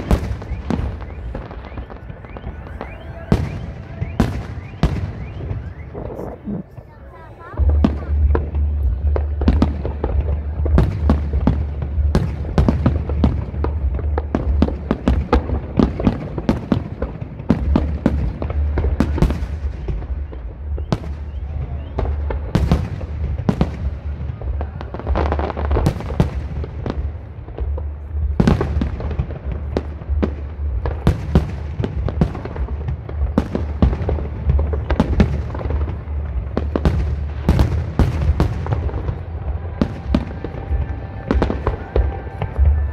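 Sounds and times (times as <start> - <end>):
fireworks bursts and crackling bangs: 0.0 - 42.9
steady low rumble: 0.0 - 42.9.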